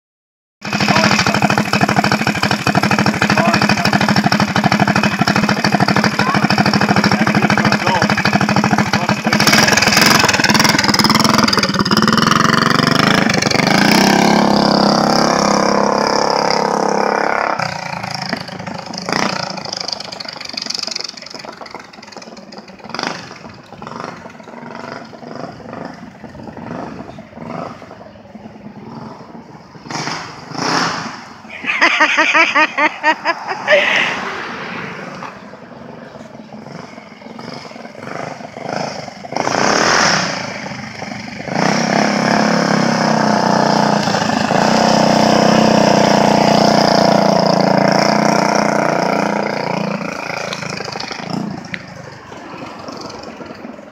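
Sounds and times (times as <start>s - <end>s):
minibike engine: 0.6s - 53.9s.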